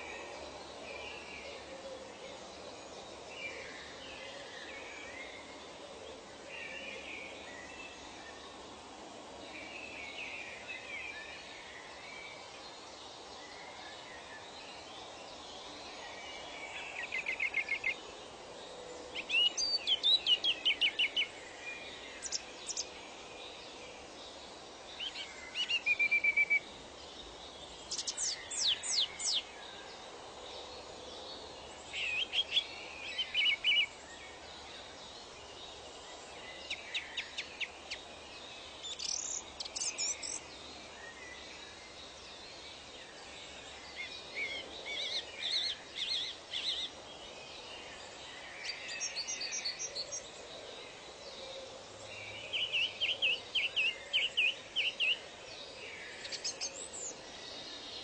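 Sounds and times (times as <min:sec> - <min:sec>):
soft forest ambience hiss: 0:00.0 - 0:58.0
songbirds chirping and trilling: 0:00.0 - 0:58.0.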